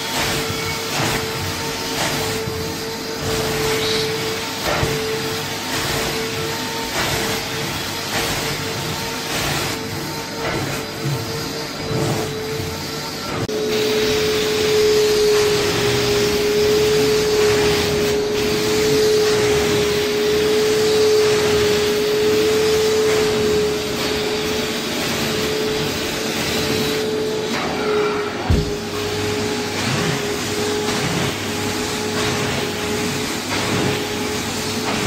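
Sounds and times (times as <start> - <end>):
carpet extractor vacuum whine: 0.0 - 35.0.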